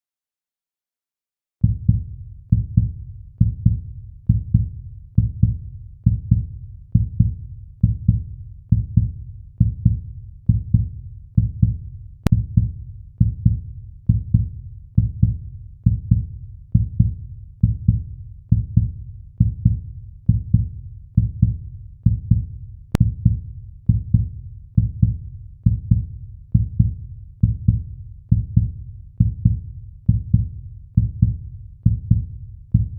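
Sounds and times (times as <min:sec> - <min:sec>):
heartbeat: 0:01.6 - 0:32.9.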